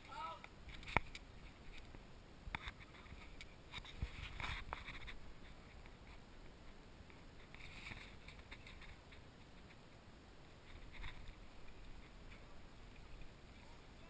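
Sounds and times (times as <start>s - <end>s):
faint rustles or scuffs: 2.6s - 13.9s.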